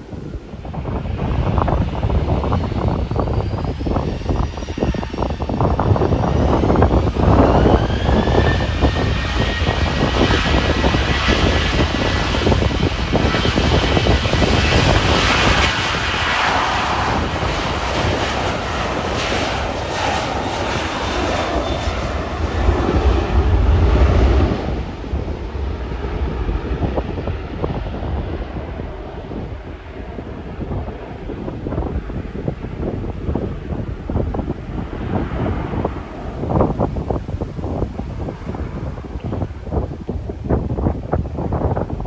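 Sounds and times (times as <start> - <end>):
jet engines whining: 0.0 - 42.0
wind buffeting microphone: 0.0 - 42.0.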